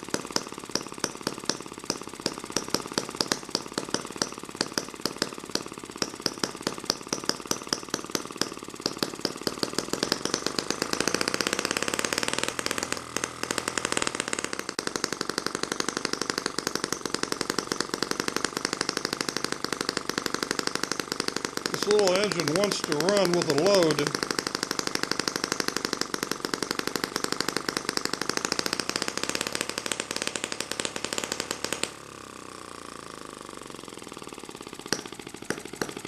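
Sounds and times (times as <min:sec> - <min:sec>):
model engine popping: 0:00.0 - 0:36.0.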